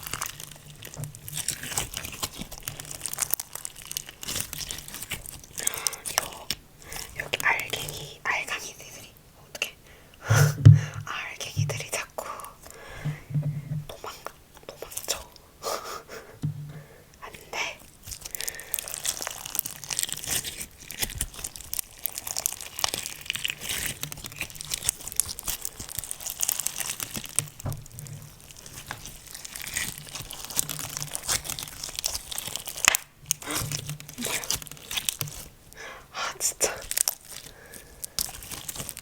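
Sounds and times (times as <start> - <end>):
slime squishing and crackling: 0.0 - 9.1, 13.8 - 15.4, 17.2 - 35.8, 36.4 - 39.0.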